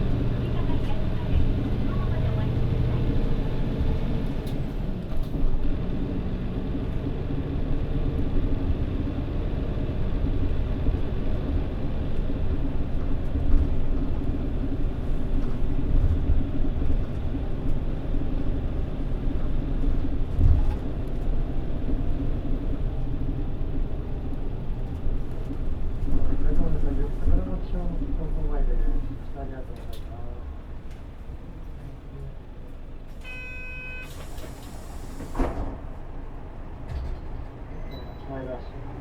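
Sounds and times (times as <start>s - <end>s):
bus diesel engine rumbling: 0.0s - 39.0s.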